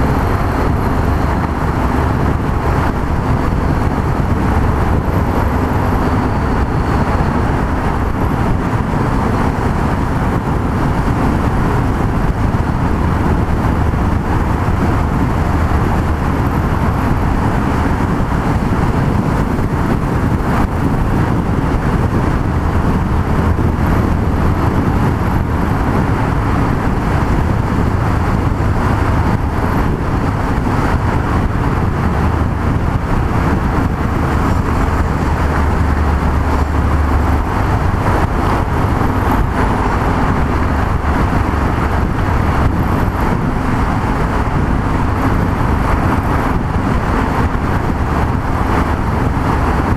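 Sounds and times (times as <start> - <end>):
motorcycle engine cruising: 0.0 - 49.9
road noise: 0.0 - 49.9
wind noise: 0.0 - 49.9.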